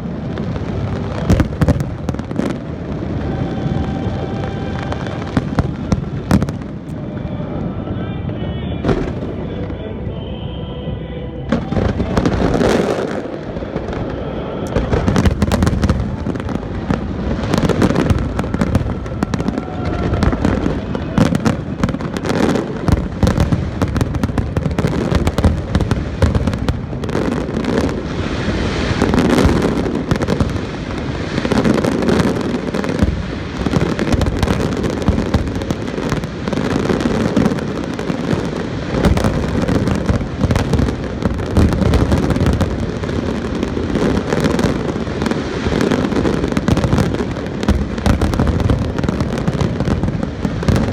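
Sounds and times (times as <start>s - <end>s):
firework booms and cracks: 0.0s - 7.0s, 8.8s - 9.4s, 11.5s - 50.9s
fireworks crackling: 0.0s - 10.3s, 10.9s - 50.9s.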